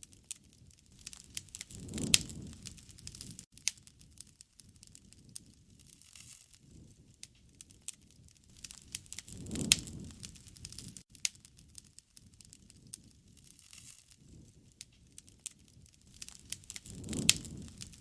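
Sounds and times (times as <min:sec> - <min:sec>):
low rumble of flames: 0:00.0 - 0:18.0
wood bonfire crackling: 0:00.0 - 0:18.0.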